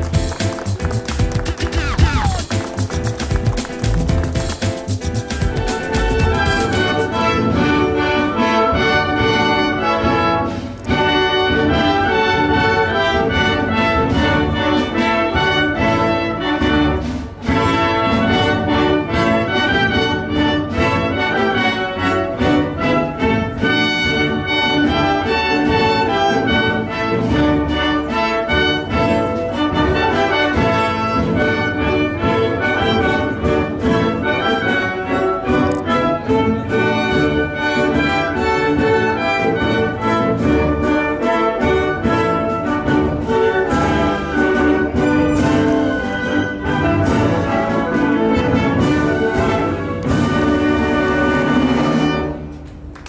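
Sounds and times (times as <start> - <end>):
orchestral music: 0.0 - 53.0.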